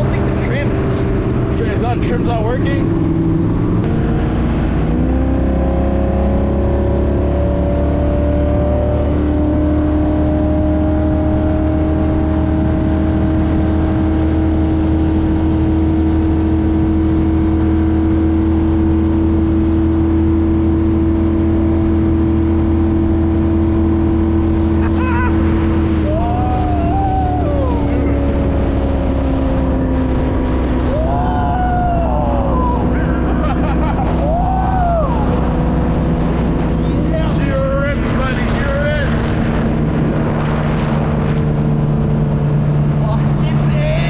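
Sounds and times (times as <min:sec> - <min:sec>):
speedboat engine roaring: 0:00.0 - 0:44.0.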